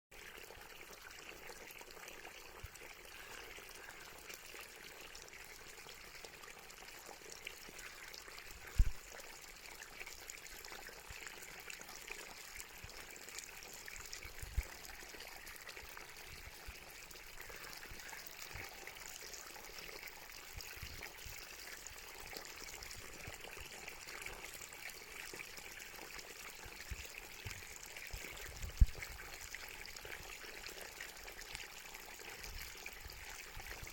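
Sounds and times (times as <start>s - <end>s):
water flowing and trickling: 0.1s - 33.9s.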